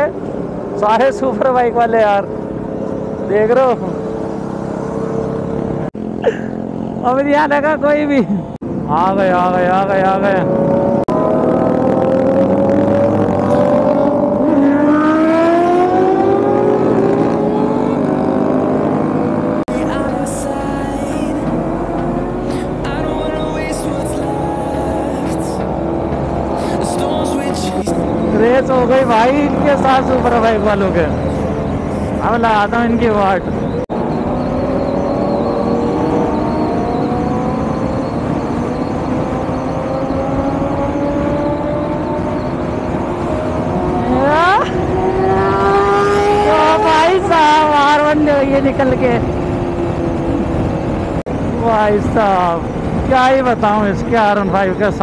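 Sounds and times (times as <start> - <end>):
motorcycle engines pulling hard: 0.0 - 55.0.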